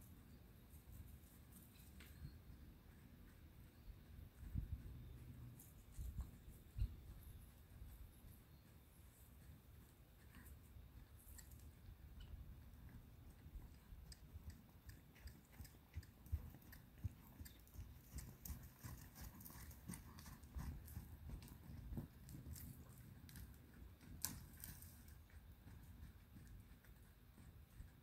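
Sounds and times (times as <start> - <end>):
horse hooves on dirt: 0.6 - 28.0.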